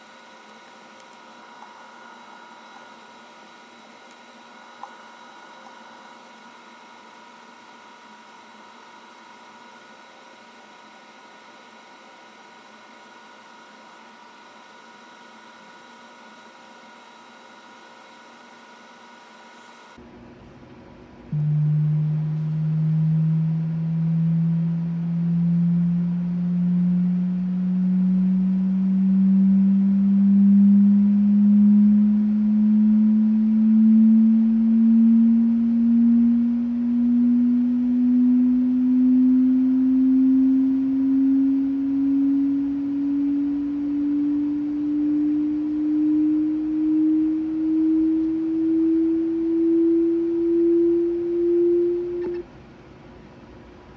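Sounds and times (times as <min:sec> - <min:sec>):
rising sine tone sweep: 0:00.0 - 0:20.0, 0:21.3 - 0:52.5.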